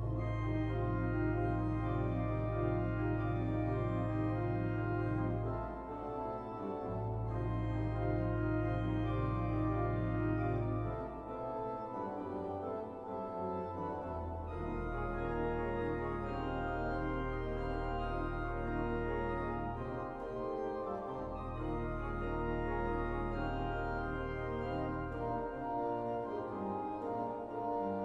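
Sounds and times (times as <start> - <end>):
deep organ pedal notes: 0.0 - 28.0
pipe organ chords: 0.0 - 28.0.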